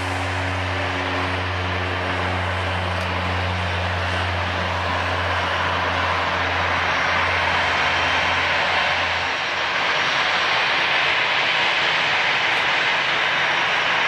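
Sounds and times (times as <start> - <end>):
jet engines whining: 0.0 - 14.0
low hum: 0.0 - 14.0.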